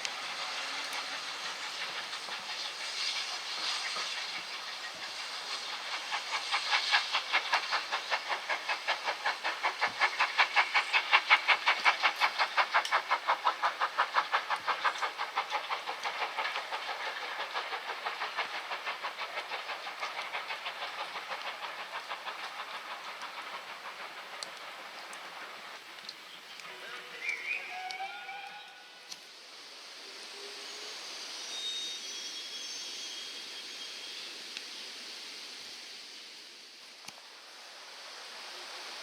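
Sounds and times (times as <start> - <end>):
steam hiss: 0.0 - 39.0
steam locomotive chuffing: 0.0 - 39.0.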